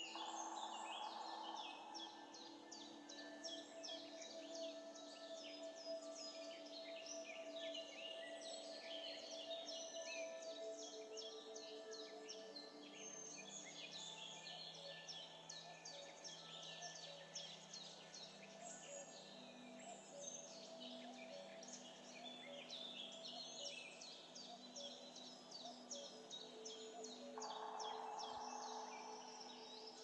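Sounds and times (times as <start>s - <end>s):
birds chirping: 0.0s - 30.0s
soft music of held notes: 0.0s - 30.0s.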